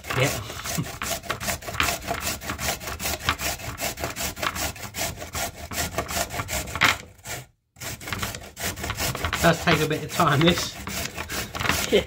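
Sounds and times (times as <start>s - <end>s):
carrot grating rasping: 0.0s - 12.0s.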